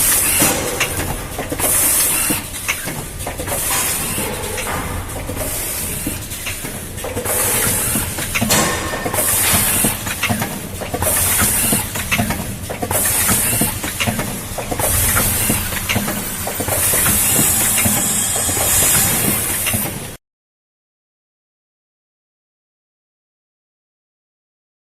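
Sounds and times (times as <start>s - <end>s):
machine hissing: 0.0s - 20.2s
mechanical clicking and clatter: 0.0s - 20.2s.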